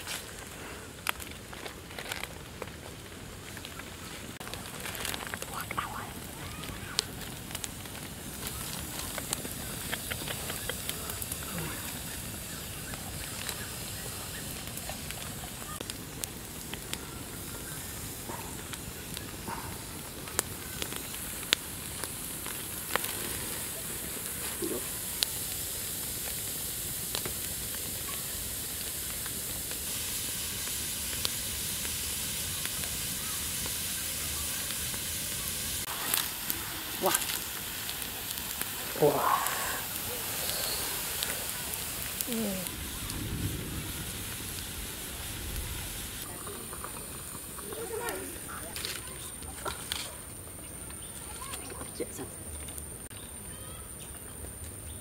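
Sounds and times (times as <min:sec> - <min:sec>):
sharp pops of fire: 0:00.0 - 0:51.8
fire hissing: 0:00.0 - 0:55.0
wood fire crackling: 0:00.0 - 0:55.0.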